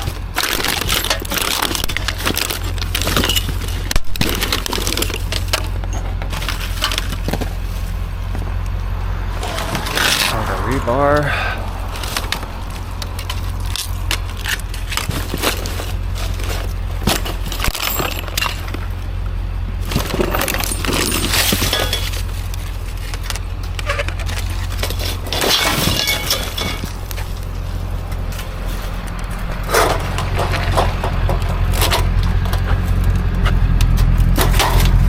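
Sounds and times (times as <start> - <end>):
scrap steel clanking: 0.0 - 8.6, 9.3 - 35.0
steady low hum: 0.0 - 35.0.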